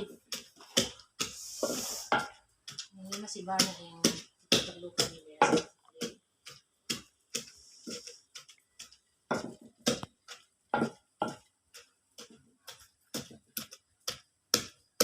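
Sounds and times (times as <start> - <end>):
pestle pounding in a mortar: 0.0 - 15.0.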